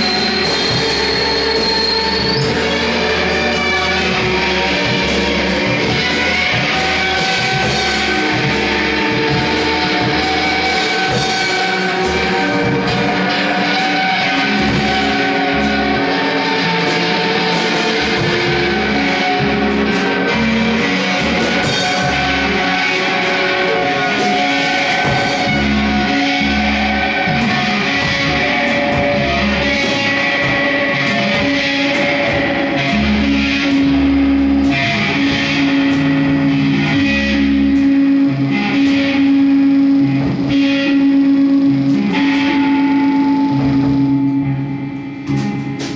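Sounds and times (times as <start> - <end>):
droning guitars and electronics: 0.0 - 45.9.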